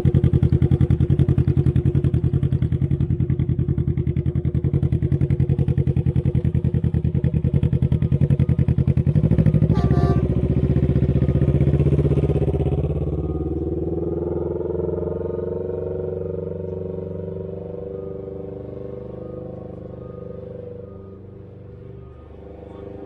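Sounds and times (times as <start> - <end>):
three-wheeler engine riding off: 0.0 - 23.0.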